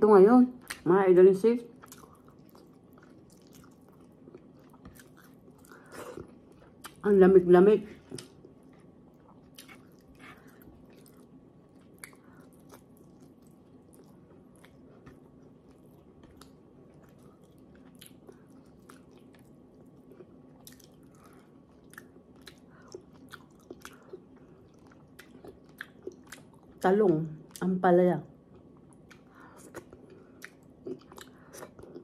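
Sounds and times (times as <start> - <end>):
faint steady hum: 0.0 - 32.0
person chewing with mouth clicks: 1.8 - 7.0, 8.0 - 26.8, 28.5 - 32.0.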